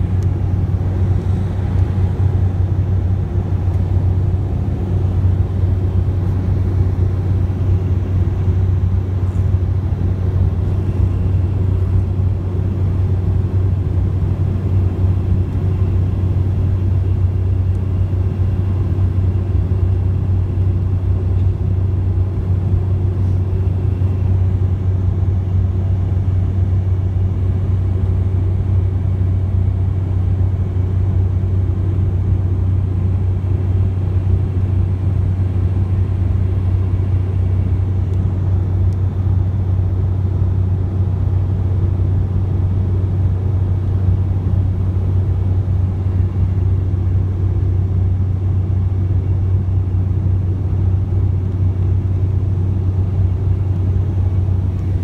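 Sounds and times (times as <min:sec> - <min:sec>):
jet airliner cabin drone: 0:00.0 - 0:55.0.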